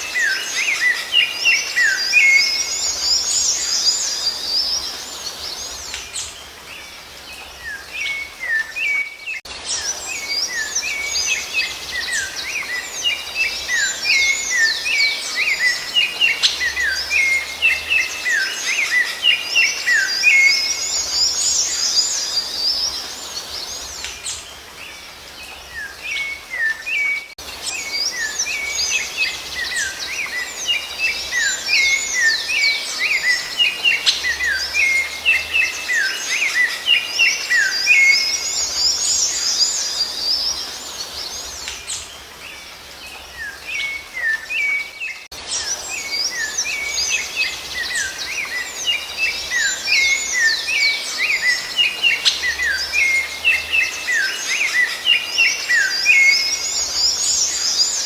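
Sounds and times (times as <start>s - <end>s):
thrush whistled song: 0.0s - 58.0s.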